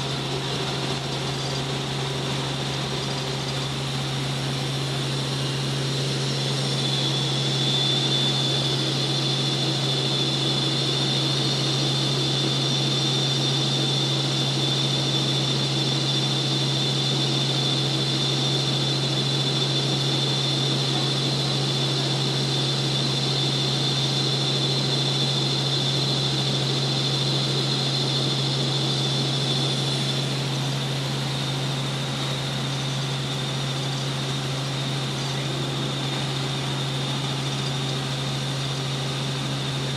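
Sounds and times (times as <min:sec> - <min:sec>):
helicopter engine and rotor drone: 0:00.0 - 0:39.9
high whine: 0:00.0 - 0:39.9.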